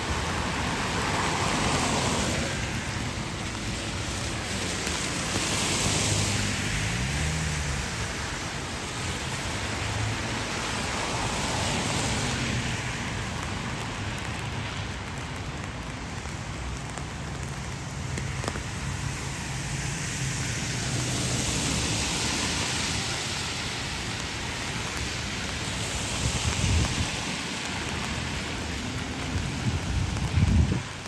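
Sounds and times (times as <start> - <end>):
rain on pavement: 0.0 - 31.0.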